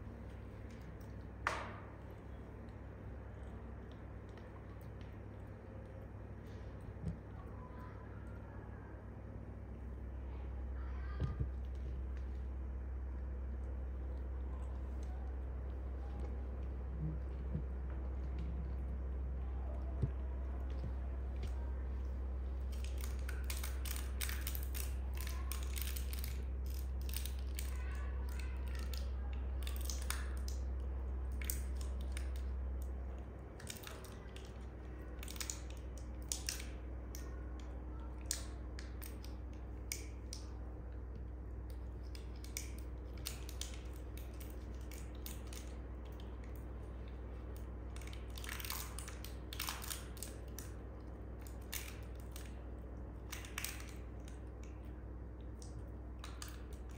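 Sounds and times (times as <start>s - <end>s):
low steady hum: 0.0s - 56.9s.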